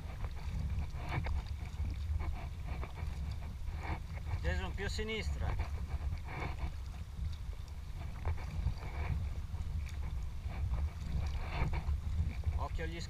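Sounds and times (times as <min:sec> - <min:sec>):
paddle strokes splashing: 0:00.0 - 0:13.0
wind noise on microphone: 0:00.0 - 0:13.0.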